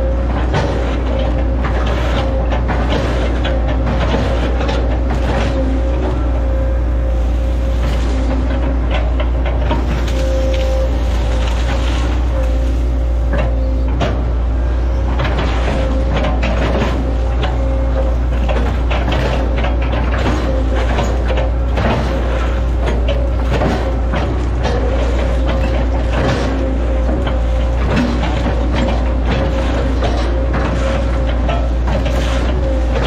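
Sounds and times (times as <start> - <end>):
knocks and clatter: 0.0 - 6.7, 7.6 - 33.0
excavator diesel engine: 0.0 - 33.0
hydraulic whine: 0.0 - 33.0.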